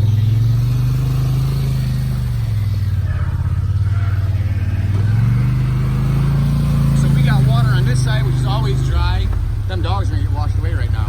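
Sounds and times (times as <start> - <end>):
off-road engine running under load: 0.0 - 11.0.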